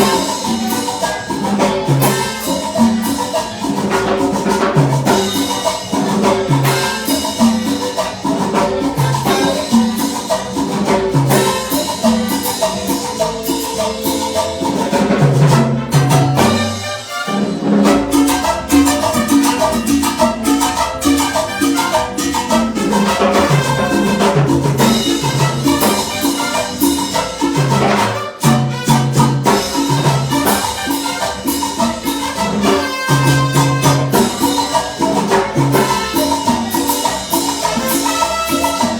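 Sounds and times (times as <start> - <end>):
live band playing salsa: 0.0 - 38.9.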